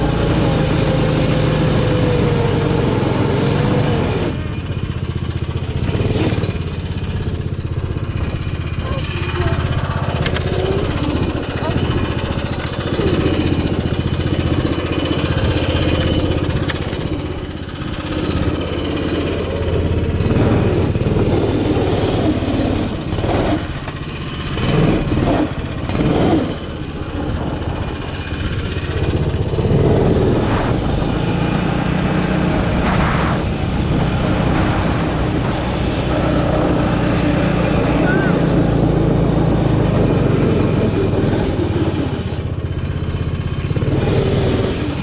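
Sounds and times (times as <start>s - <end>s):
snowmobile engine revving: 0.0s - 45.0s.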